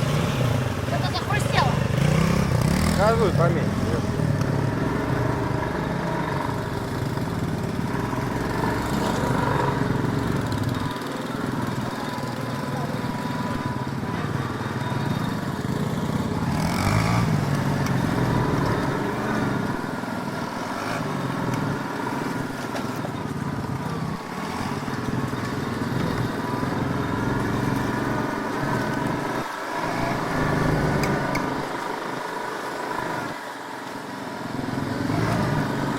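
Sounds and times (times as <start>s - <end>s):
off-road vehicle engine revving: 0.0s - 35.9s.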